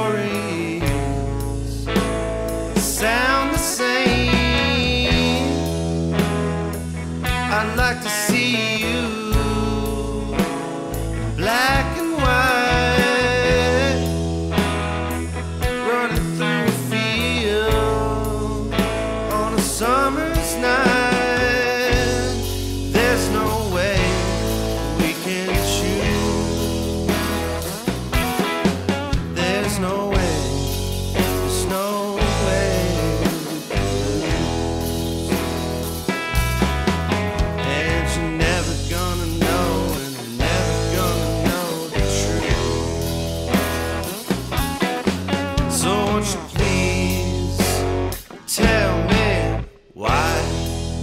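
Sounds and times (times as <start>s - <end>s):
rock music with guitar and bass: 0.0s - 51.0s.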